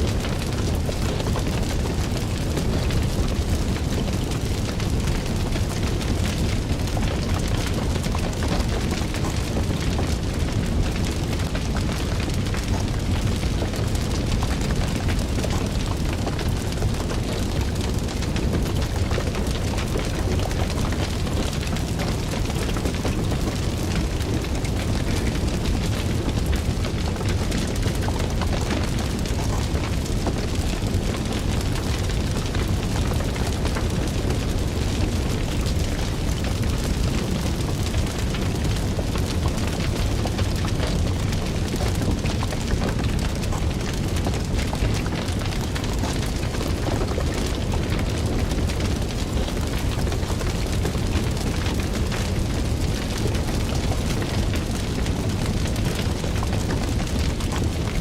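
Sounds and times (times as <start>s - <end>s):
fire crackling and roaring: 0.0s - 58.0s.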